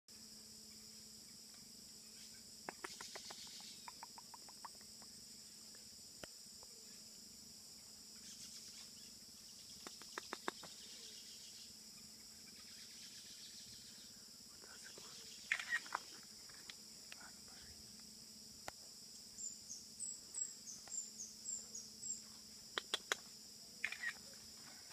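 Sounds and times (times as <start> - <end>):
high-pitched insect chorus: 0.1 - 24.9.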